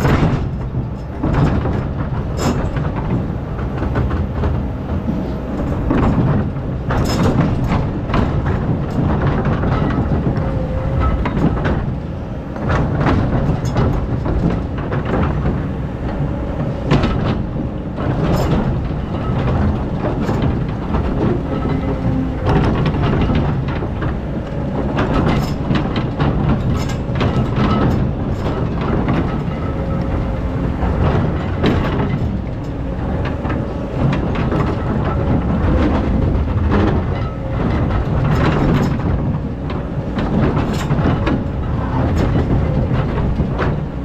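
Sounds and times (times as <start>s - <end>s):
excavator diesel engine: 0.0s - 44.0s.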